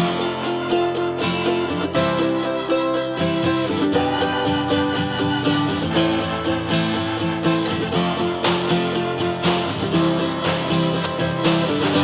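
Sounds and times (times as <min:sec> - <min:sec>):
acoustic guitar instrumental music: 0:00.0 - 0:12.0.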